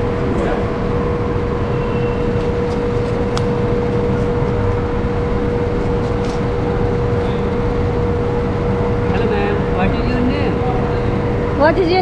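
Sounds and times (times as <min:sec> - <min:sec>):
mechanical hum and low rumble: 0:00.0 - 0:12.0.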